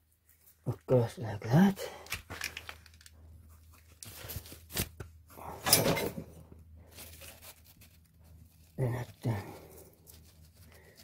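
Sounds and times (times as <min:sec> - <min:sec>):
scraping and rustling handling noises: 0:02.0 - 0:11.0.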